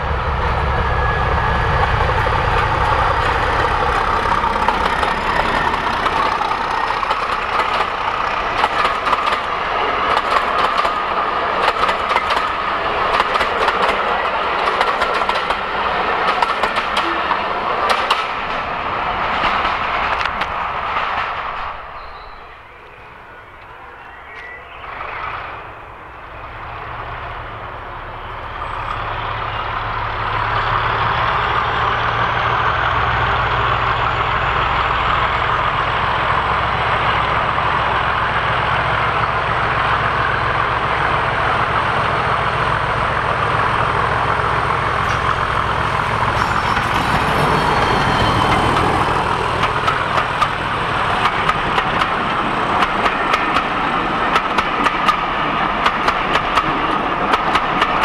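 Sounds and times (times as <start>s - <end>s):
diesel locomotive engine drone: 0.0s - 58.0s
train wheels clicking over rail joints: 1.6s - 22.1s, 30.0s - 58.0s.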